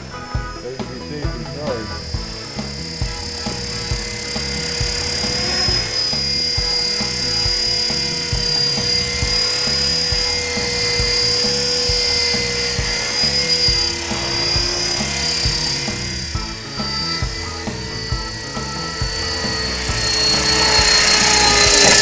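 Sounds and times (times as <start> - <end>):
background music with steady beat: 0.0 - 22.0
rc helicopter motor whine: 0.0 - 22.0.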